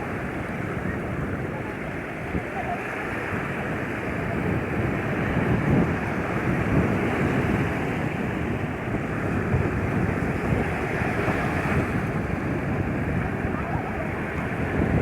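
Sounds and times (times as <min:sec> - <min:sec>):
sea waves washing onto beach: 0:00.0 - 0:15.0
wind buffeting microphone: 0:00.0 - 0:15.0.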